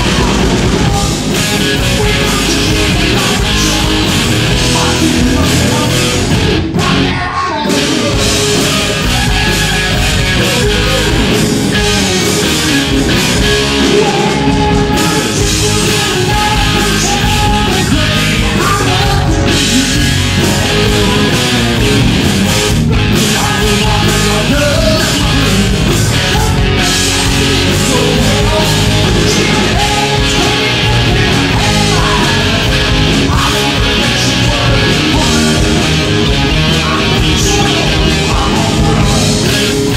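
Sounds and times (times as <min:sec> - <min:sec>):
man singing: 0:00.0 - 0:22.0, 0:23.0 - 0:39.9
rock band playing: 0:00.0 - 0:39.9.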